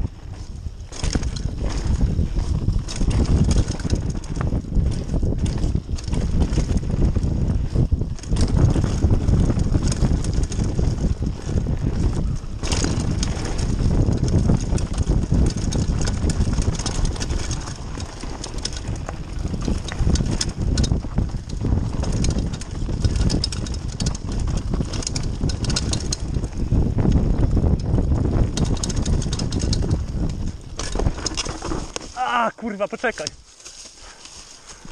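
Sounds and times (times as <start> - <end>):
wind buffeting microphone: 0.0 - 33.6
bike rattling and clacking: 0.0 - 34.9
tyres rumbling on dirt: 0.1 - 33.4.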